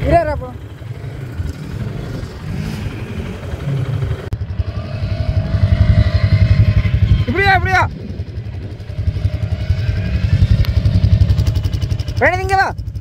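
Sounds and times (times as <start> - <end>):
atv engine pulsing rumble: 0.0 - 13.0.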